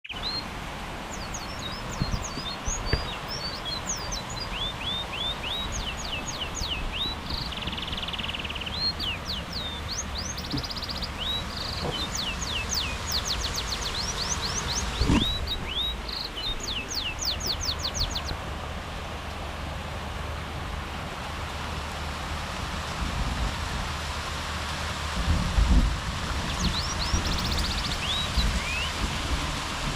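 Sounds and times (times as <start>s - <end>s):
songbird singing: 0.0s - 21.0s, 25.7s - 29.9s
steady rain: 0.0s - 29.9s.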